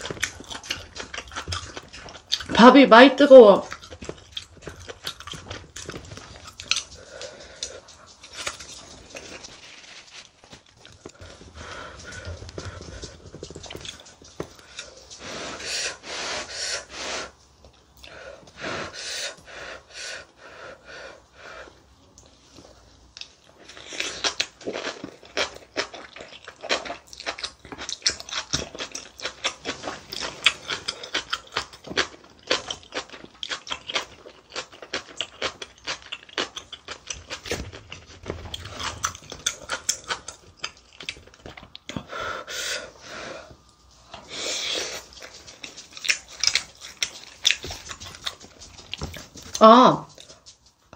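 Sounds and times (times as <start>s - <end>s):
chewing with clicking mouth sounds: 0.0s - 2.7s, 3.6s - 9.6s, 10.5s - 15.4s, 22.2s - 42.1s, 43.5s - 50.9s.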